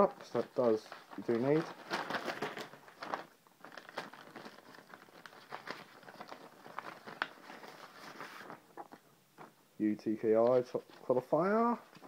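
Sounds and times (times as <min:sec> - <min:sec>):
paper and plastic rustling: 0:00.0 - 0:09.6, 0:10.2 - 0:12.0.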